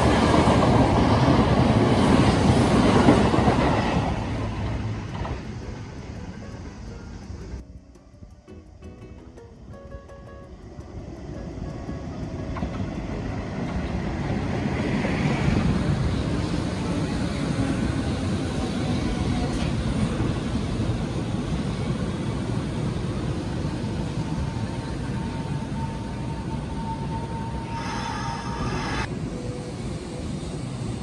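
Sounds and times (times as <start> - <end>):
train running past: 0.0 - 31.0.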